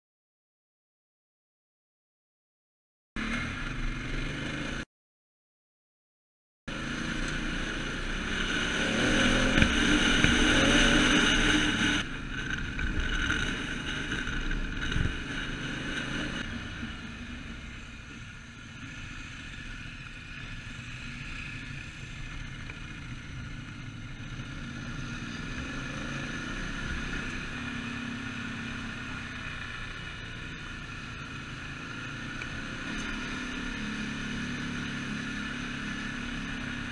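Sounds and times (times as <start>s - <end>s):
road noise: 3.2s - 4.8s, 6.7s - 36.9s
motorcycle engine running: 6.7s - 36.9s.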